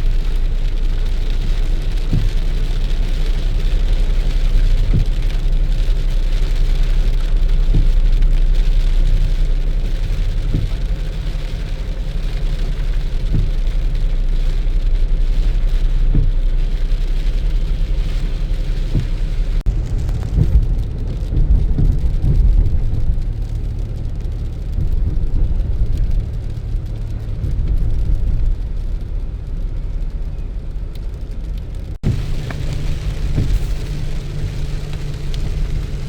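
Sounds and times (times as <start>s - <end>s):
low steady rumble: 0.0s - 36.0s
rain falling: 0.0s - 36.0s.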